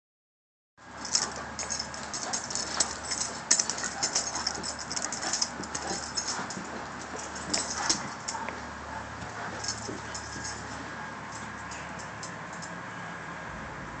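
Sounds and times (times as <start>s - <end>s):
dogs' claws clicking and rustling: 0.9s - 12.8s.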